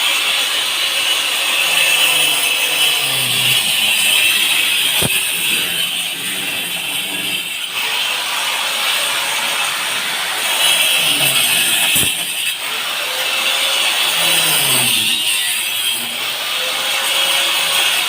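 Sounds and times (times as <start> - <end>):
hand pump creaking strokes: 0.7 - 18.0.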